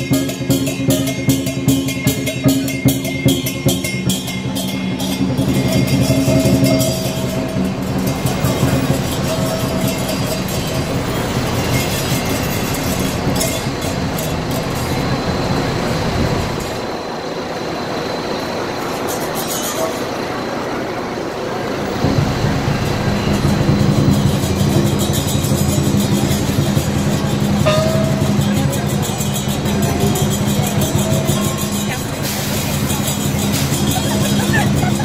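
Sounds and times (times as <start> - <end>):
cymbals clashing: 0.0 - 20.9, 21.8 - 35.0.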